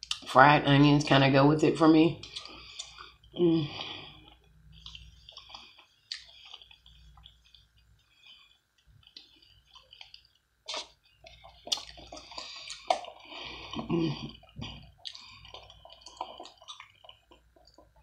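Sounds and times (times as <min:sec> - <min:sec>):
wet chewing mouth sounds: 0:02.2 - 0:18.0.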